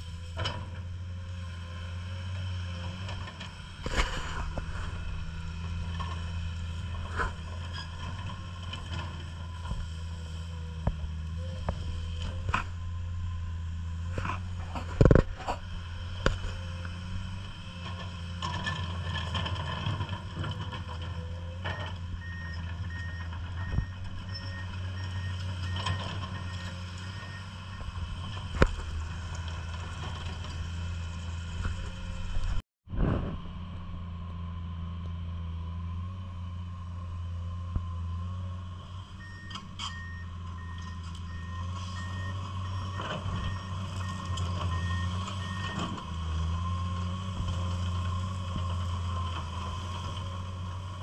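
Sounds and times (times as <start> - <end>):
excavator diesel engine running: 0.0 - 51.0.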